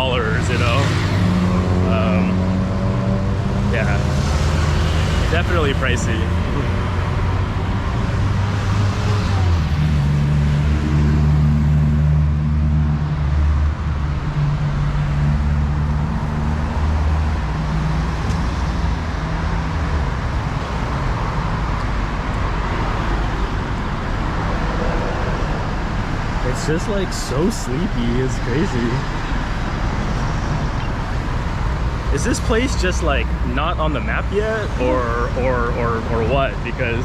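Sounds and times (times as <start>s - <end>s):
passing traffic: 0.0s - 37.0s
vehicle engine hum: 0.0s - 37.0s.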